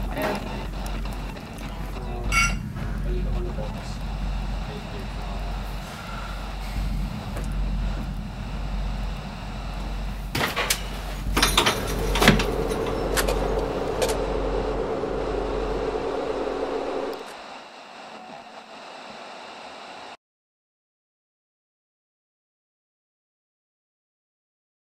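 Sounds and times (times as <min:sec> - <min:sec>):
low hum: 0:00.0 - 0:20.2
low rumble: 0:00.0 - 0:20.2.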